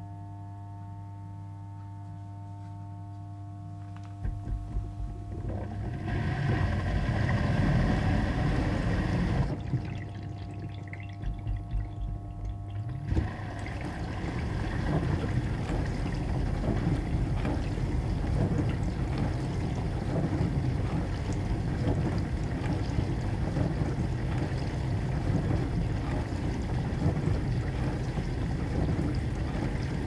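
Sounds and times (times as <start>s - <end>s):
dishwasher hum: 4.0s - 30.0s
water sloshing and spraying: 4.2s - 30.0s.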